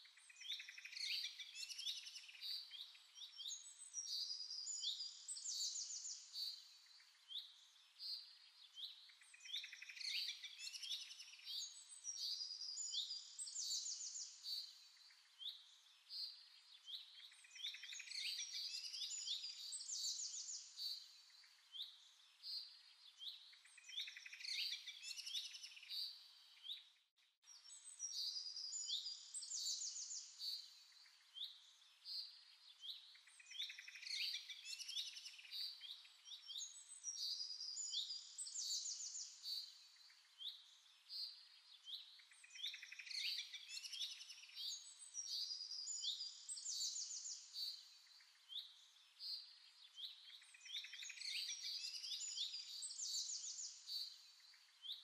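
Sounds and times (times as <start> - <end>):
birds chirping and trilling: 0.2 - 55.0.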